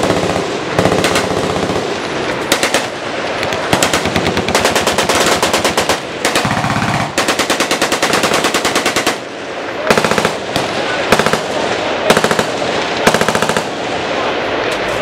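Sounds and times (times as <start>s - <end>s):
machine guns firing bursts: 0.0s - 9.3s, 9.9s - 13.8s.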